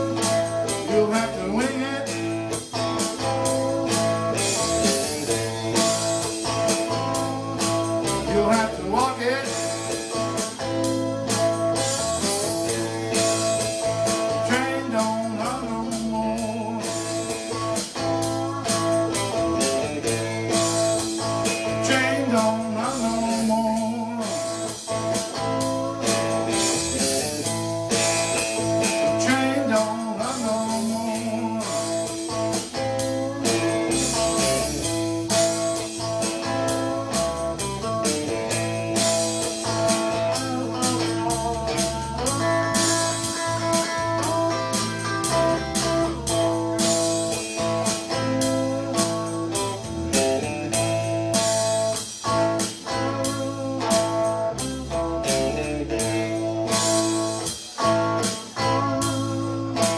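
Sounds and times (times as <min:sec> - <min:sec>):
backing track with steady beat: 0:00.0 - 0:59.9
electric guitar lead with bent notes: 0:00.0 - 0:59.9.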